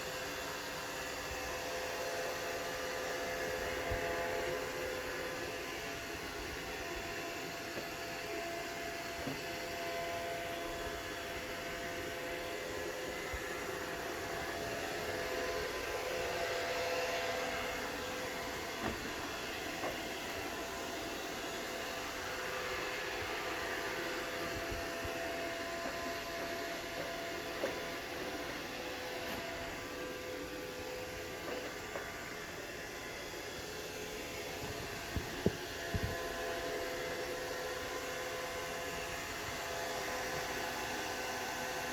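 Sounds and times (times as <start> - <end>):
robot vacuum motor whirring: 0.0 - 41.9.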